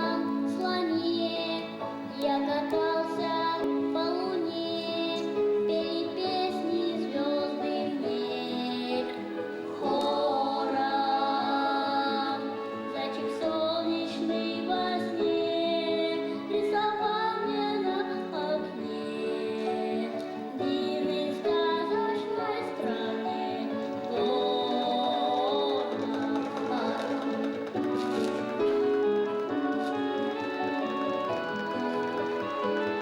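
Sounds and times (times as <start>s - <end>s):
singing with long held notes: 0.0s - 33.0s.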